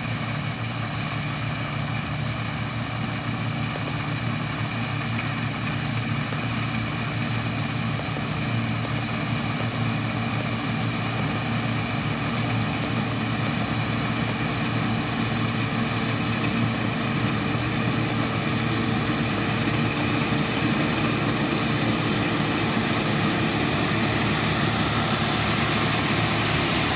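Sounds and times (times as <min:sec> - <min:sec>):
combine harvester drone: 0:00.0 - 0:26.9.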